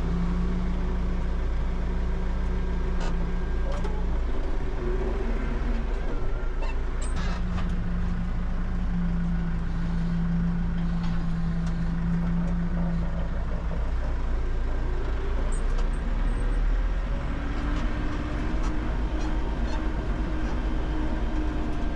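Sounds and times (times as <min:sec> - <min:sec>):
tractor engine drone: 0:00.0 - 0:21.9.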